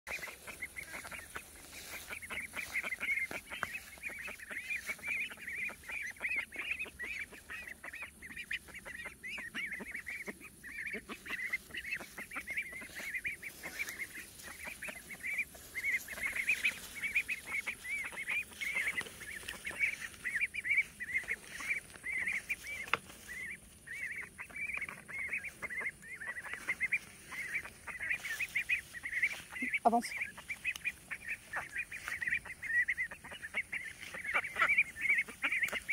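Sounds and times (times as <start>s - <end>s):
ducklings peeping: 0.1s - 35.9s.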